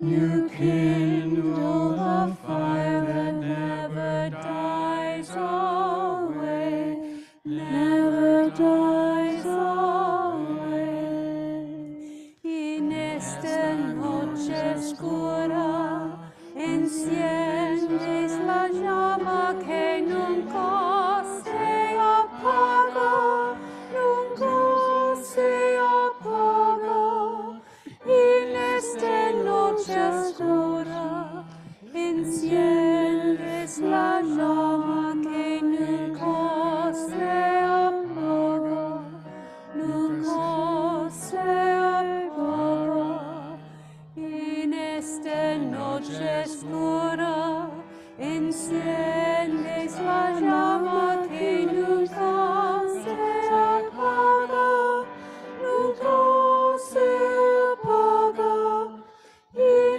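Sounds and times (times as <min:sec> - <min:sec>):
choir singing a slow hymn: 0:00.0 - 0:59.9
keyboard accompaniment: 0:00.0 - 0:59.9.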